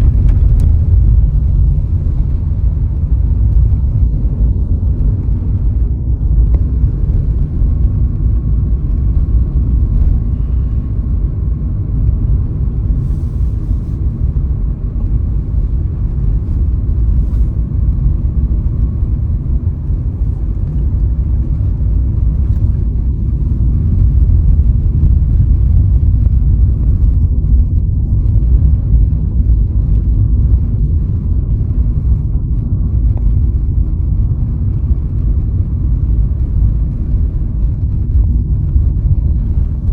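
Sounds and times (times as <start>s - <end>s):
car driving along road: 0.0s - 39.9s.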